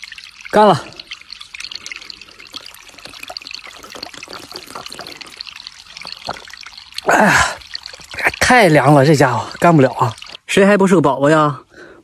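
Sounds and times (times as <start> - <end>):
water trickling and gurgling: 0.0 - 12.0.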